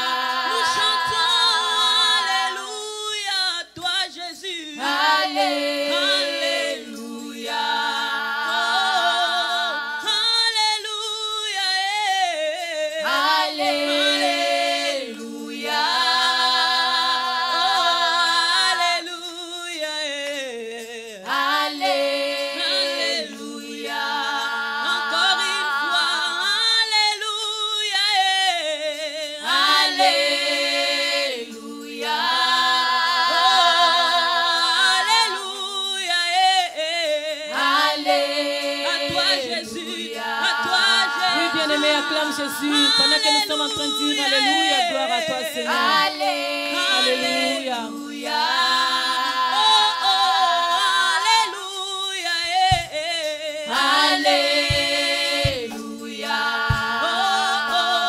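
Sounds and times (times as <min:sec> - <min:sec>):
unaccompanied voices singing: 0:00.0 - 0:58.0.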